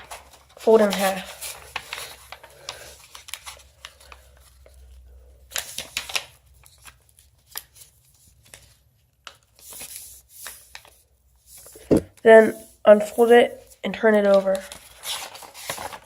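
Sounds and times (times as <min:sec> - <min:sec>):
paper being folded and creased: 0:00.0 - 0:16.0.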